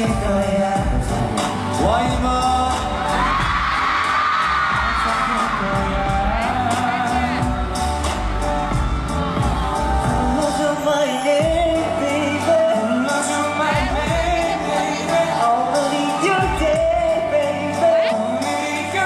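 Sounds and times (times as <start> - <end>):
man singing: 0.0 - 7.8, 8.6 - 19.0
slow band accompaniment: 0.0 - 19.0.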